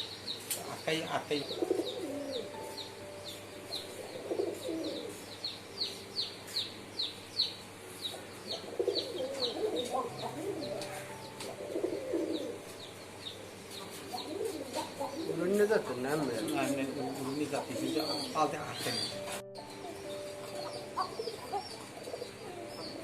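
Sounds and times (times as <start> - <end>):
pigeons cooing: 0.7 - 6.0, 7.6 - 23.0.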